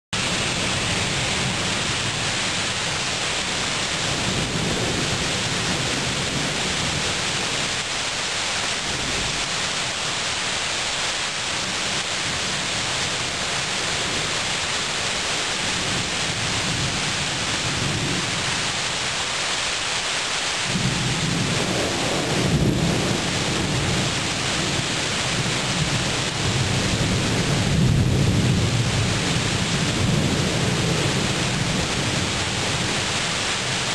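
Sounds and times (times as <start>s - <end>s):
rolling thunder rumbles: 0.2s - 7.8s, 11.6s - 18.7s, 20.7s - 33.9s
rain hissing: 0.2s - 33.9s.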